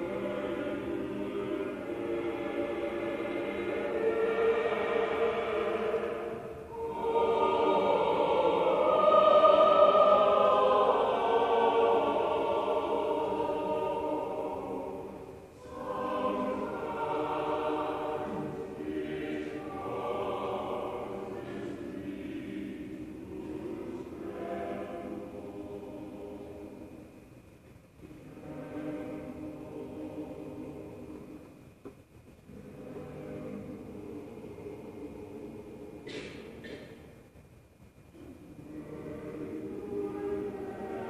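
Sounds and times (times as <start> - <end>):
choir singing long held notes: 0.0 - 31.7, 32.4 - 37.4, 38.0 - 41.0.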